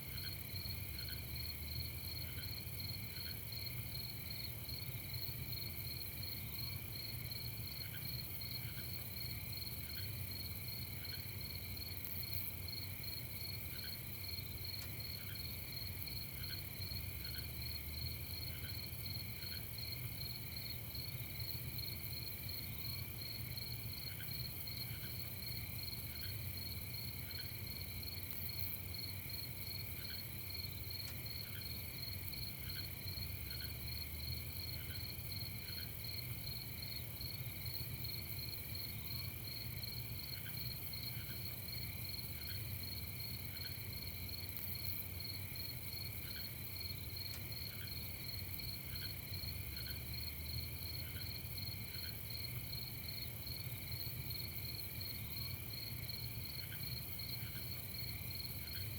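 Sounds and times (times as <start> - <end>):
crickets trilling: 0.1 - 58.9.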